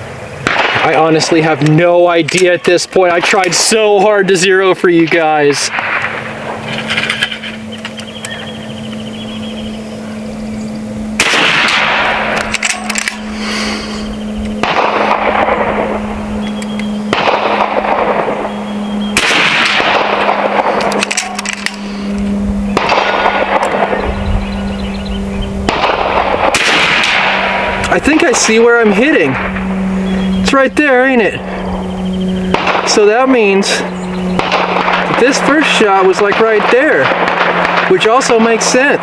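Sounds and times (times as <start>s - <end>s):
steady low hum: 0.0s - 39.0s
air rifle shots: 0.3s - 4.2s, 5.0s - 9.0s, 10.8s - 24.3s, 25.6s - 39.0s.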